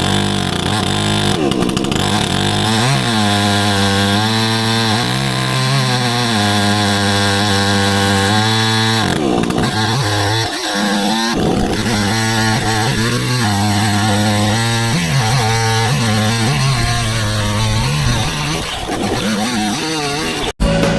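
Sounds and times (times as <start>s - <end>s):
chainsaw cutting a log: 0.0s - 20.9s.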